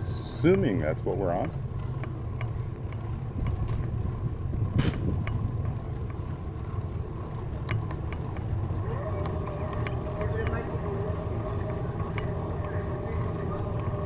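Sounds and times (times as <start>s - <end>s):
wind buffeting microphone: 0.0s - 14.0s
faint ticks: 1.4s - 14.0s.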